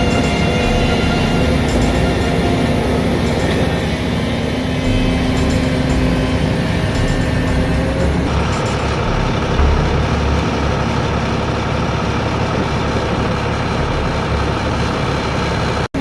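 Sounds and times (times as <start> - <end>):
heavy machinery engine rumbling: 0.0 - 16.0.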